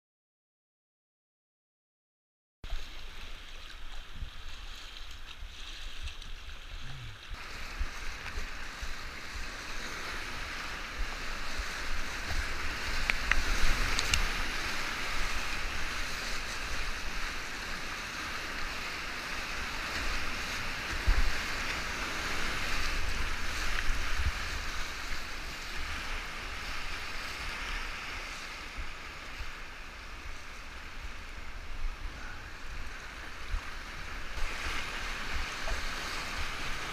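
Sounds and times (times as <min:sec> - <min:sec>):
river rapids rushing: 0:07.2 - 0:36.9.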